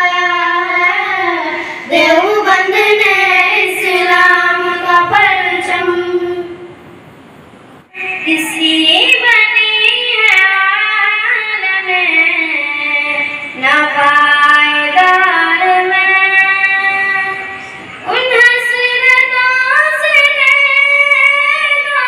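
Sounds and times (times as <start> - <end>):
girl singing into a microphone: 0.0 - 6.8, 7.9 - 22.0.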